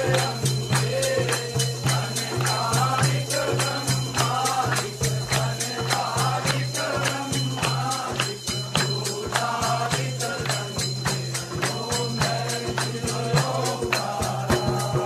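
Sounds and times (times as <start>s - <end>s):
group singing a hymn: 0.0s - 15.0s
rhythmic hand clapping: 0.0s - 15.0s.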